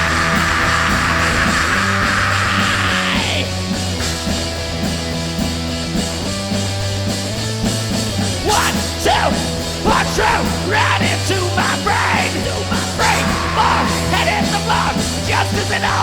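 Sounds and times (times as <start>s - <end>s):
punk rock band playing: 0.0s - 16.0s.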